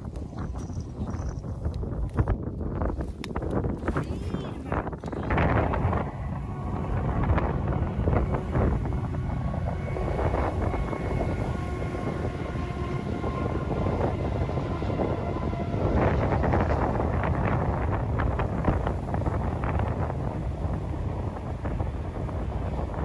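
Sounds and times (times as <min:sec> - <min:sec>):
diesel locomotives running: 0:00.0 - 0:23.0
freight cars rumbling: 0:00.0 - 0:23.0
wind gusts on microphone: 0:00.0 - 0:23.0.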